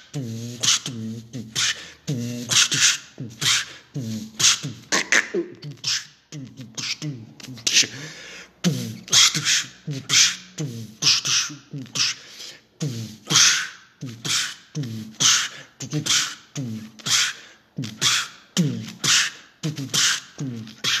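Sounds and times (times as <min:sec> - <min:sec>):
man beatboxing: 0:00.0 - 0:21.0.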